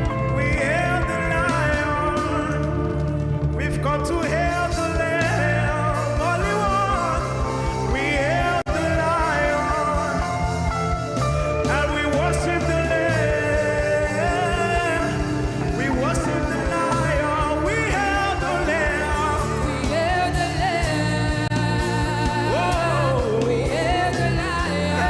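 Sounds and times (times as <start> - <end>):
keyboard chords: 0.0 - 25.0
person singing: 0.0 - 25.0
steady drum beat: 0.0 - 25.0.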